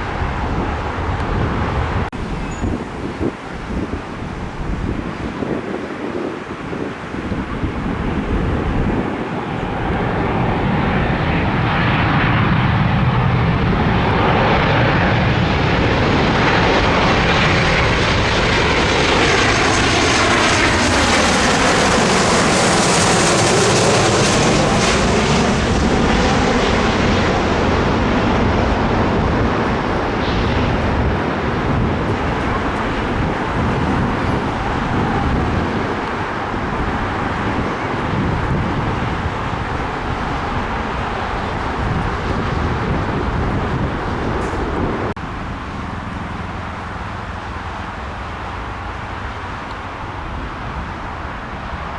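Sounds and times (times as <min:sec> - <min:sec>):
airliner passing overhead: 0:00.0 - 0:51.9.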